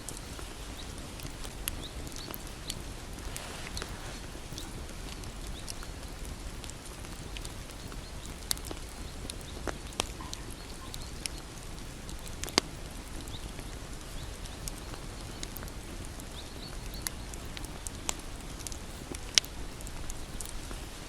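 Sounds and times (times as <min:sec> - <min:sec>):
wood crackling and popping: 0:00.0 - 0:21.0.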